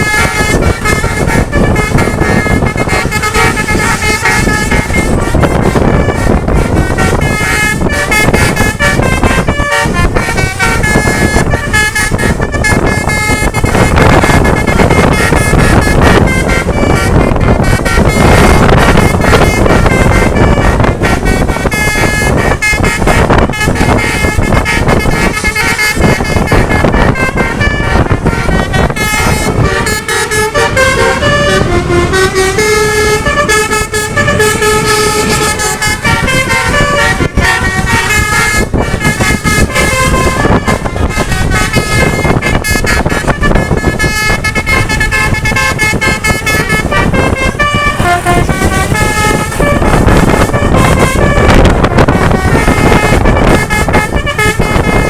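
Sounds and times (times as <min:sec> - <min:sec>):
bus multi-tone horns playing tunes: 0:00.0 - 0:55.0
engine and road rumble: 0:00.0 - 0:55.0.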